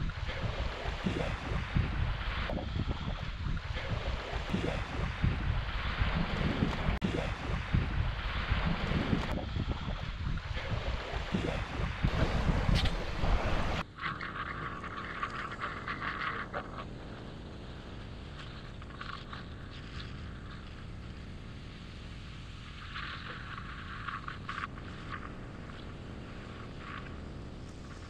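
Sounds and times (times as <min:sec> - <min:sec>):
hiss of wind and sea: 0:00.0 - 0:28.0
rushes of water: 0:00.0 - 0:28.0
wind buffeting microphone: 0:00.0 - 0:28.0.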